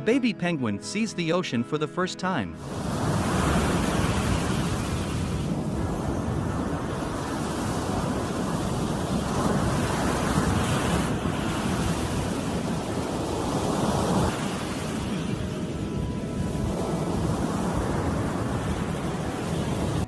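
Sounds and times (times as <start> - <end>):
ocean surf washing ashore: 2.2 - 20.0
wind buffeting microphone: 2.6 - 20.0.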